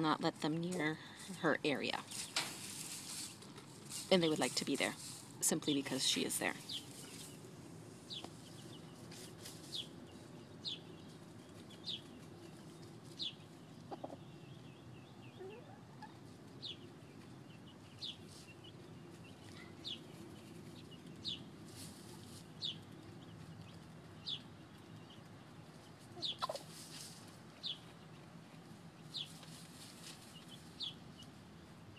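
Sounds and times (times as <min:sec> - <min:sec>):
chickens peeping: 0:05.6 - 0:31.8.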